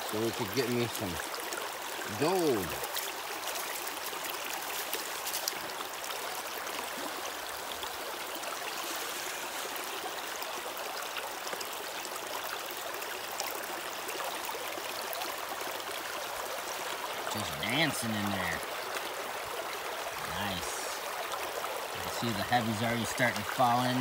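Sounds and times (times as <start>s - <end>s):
water rushing through sluice box: 0.0s - 24.0s.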